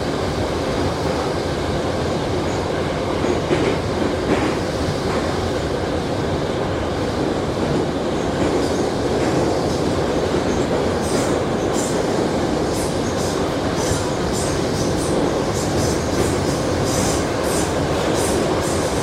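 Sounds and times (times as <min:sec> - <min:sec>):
wheels rattling on track: 0:00.0 - 0:06.2, 0:07.0 - 0:19.0
metro train rumbling: 0:00.0 - 0:19.0.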